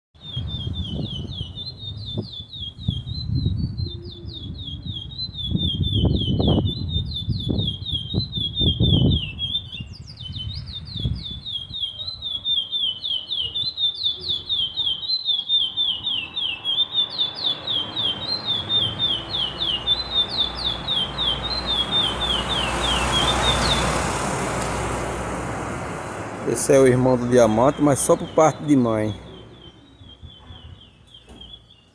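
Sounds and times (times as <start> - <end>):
songbird singing: 0.2 - 31.9.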